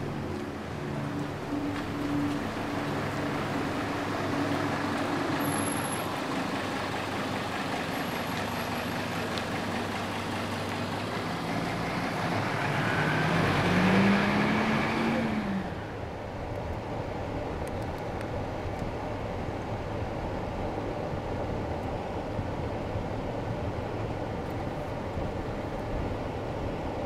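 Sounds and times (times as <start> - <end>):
bus diesel engine accelerating: 0.0 - 27.0.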